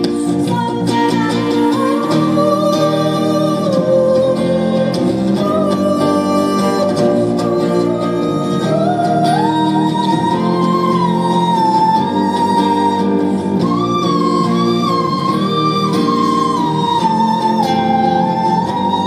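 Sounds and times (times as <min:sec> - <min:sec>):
strummed acoustic guitar: 0:00.0 - 0:19.0
woman singing wordless notes: 0:00.0 - 0:19.0.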